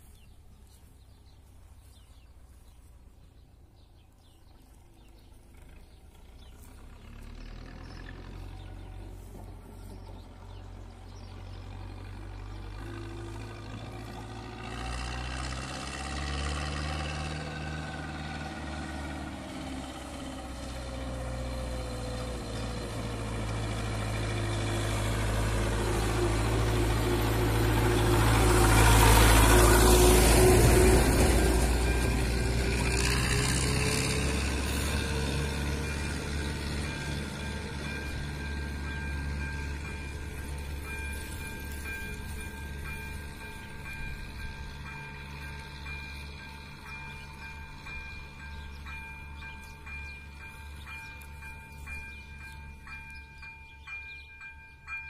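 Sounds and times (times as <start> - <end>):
passenger train passing: 0.0 - 55.0.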